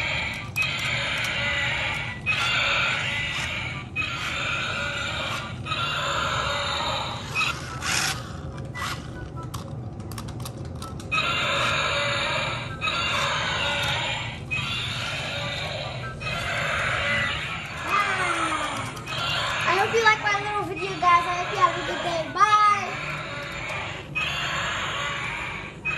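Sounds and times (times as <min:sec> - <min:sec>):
tinny recorded dinosaur roars: 0:00.0 - 0:07.5, 0:11.2 - 0:25.9
low hum of drive motors: 0:00.0 - 0:25.9
sharp clicks and rattles: 0:00.0 - 0:25.9.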